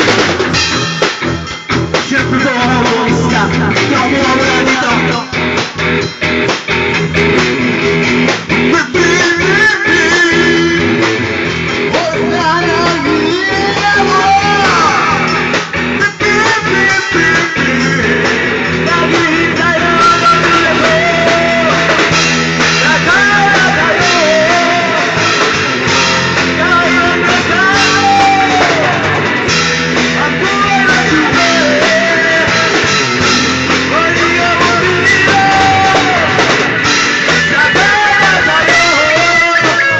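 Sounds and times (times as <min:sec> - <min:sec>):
drums: 0:00.0 - 0:39.9
guitar: 0:00.0 - 0:39.9
rock singing voice: 0:00.0 - 0:39.9.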